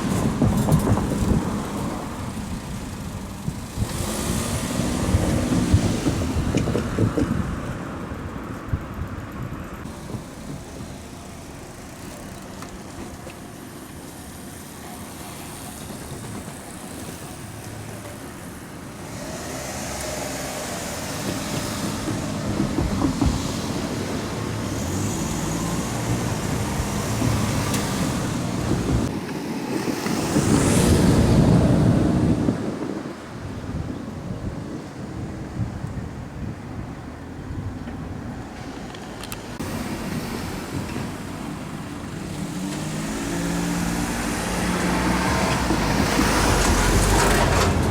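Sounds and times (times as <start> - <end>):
vehicles driving past: 0.0 - 47.9.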